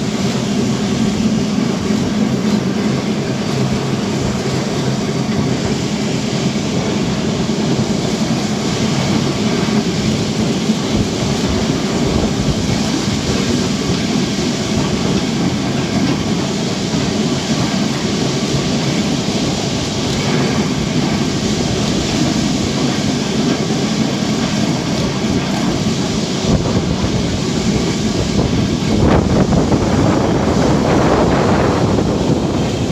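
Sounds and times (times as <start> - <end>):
tram wheels on rails: 0.0 - 32.9.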